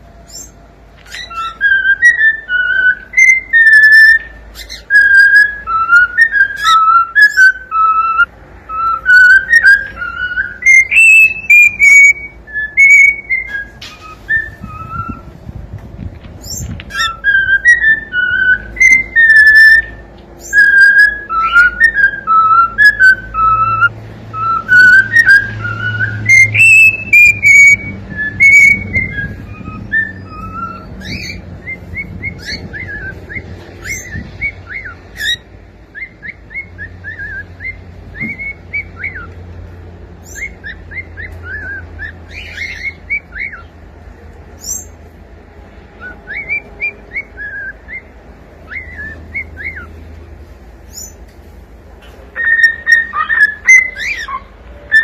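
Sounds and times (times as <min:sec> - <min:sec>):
cockatiel whistling: 0:00.3 - 0:15.3, 0:16.4 - 0:39.4, 0:40.2 - 0:43.7, 0:46.0 - 0:48.1, 0:48.7 - 0:50.0, 0:52.3 - 0:55.0.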